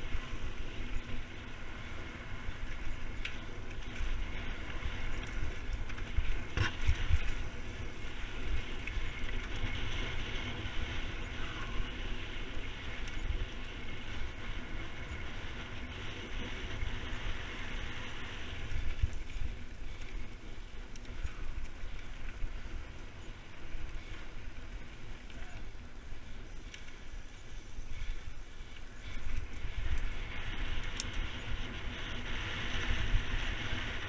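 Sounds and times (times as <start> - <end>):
bike tyres rolling on dirt: 0.0 - 34.0.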